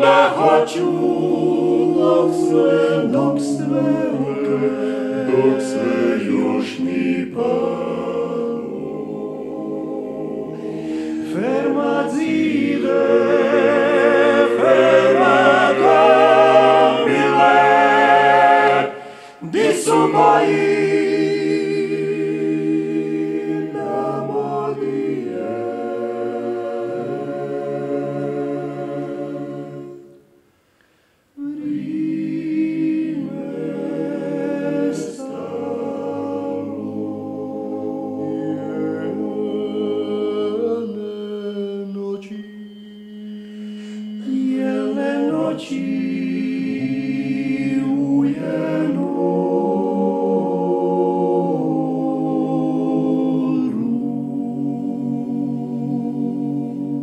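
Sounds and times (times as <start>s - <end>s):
male choir singing in harmony: 0.0s - 30.3s, 31.4s - 57.0s.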